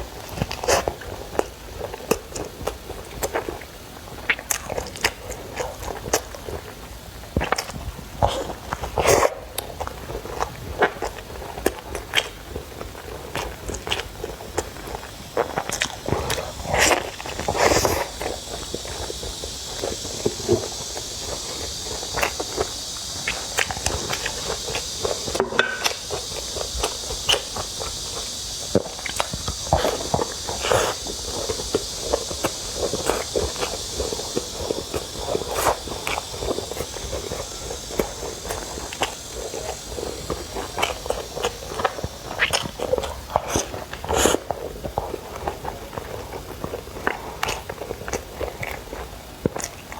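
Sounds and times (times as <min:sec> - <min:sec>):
steady hiss: 0:00.0 - 0:49.9
wet chewing and mouth smacks: 0:07.4 - 0:49.9.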